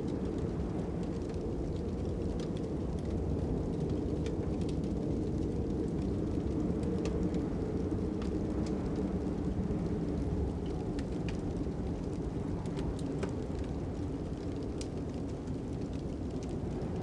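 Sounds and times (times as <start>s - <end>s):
fire popping: 0.0s - 17.0s
wood fire crackling: 0.0s - 17.0s.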